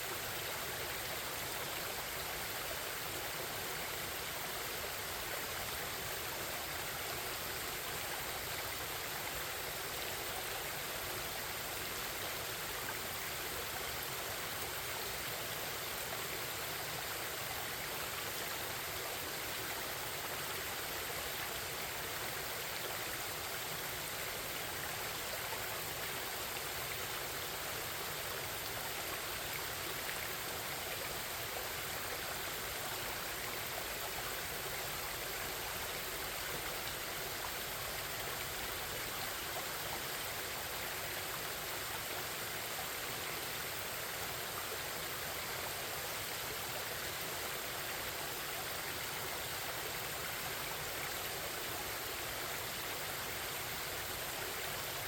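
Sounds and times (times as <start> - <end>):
forest stream babbling: 0.0 - 55.0.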